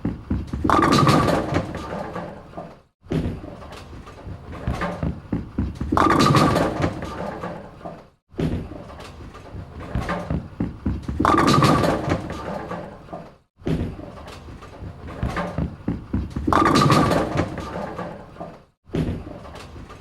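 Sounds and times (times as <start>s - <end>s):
bowling ball rolling rumble: 0.0s - 19.6s.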